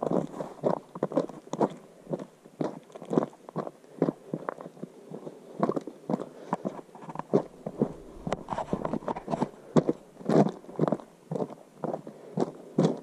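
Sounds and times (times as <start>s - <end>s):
footsteps on rough trail: 0.0s - 13.0s.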